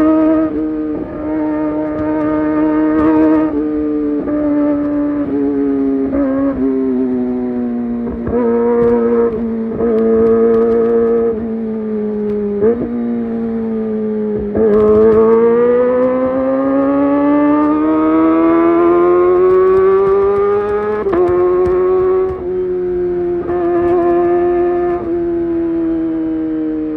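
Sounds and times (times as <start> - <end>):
motorcycle engine high revs: 0.0 - 26.5.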